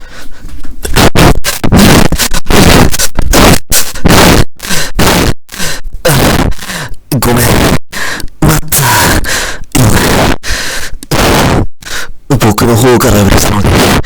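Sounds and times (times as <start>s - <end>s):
man panting into microphone: 0.0s - 12.3s.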